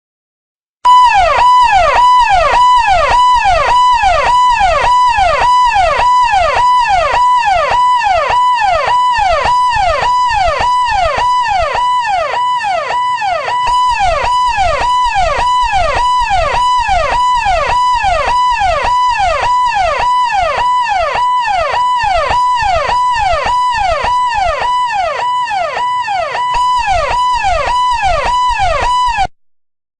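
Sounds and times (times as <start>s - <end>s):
electronic ambulance siren: 0.8s - 29.4s.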